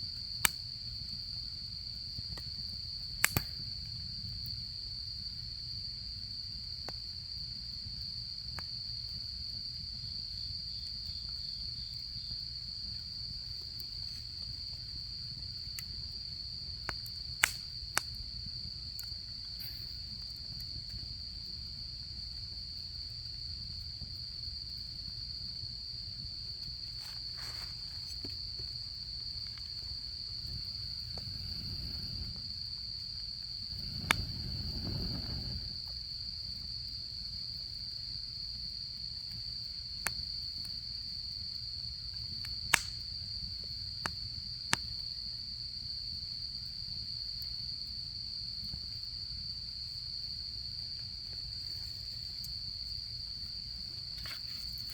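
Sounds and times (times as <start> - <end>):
insects chirring: 0.0 - 54.9
campfire wood crackling: 0.1 - 4.7, 6.3 - 45.0, 48.7 - 54.9.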